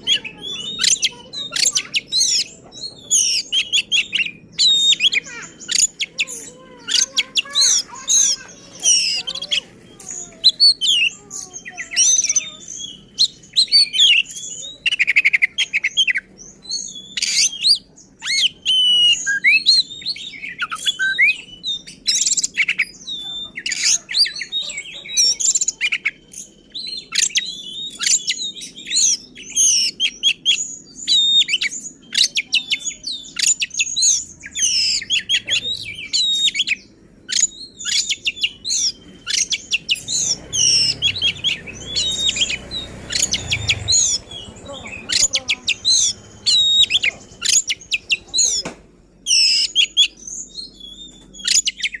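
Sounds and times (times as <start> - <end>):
songbird singing loud whistles and trills: 0.0 - 52.0.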